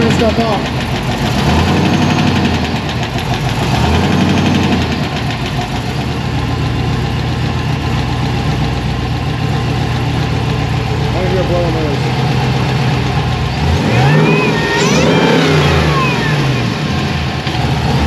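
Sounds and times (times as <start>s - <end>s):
supercharged engine idling: 0.0s - 18.0s.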